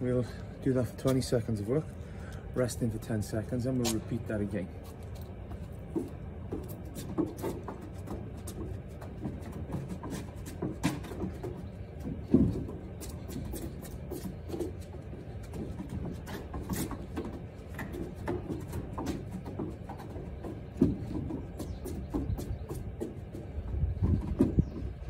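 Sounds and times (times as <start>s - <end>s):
footsteps on wooden decking: 0.0s - 25.0s.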